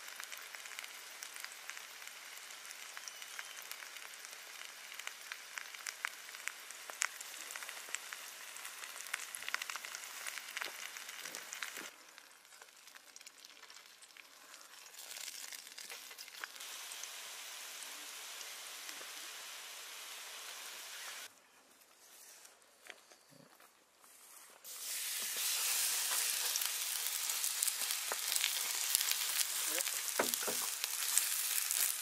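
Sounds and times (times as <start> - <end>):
leaves frying in oil: 0.0 - 21.3, 24.0 - 32.0.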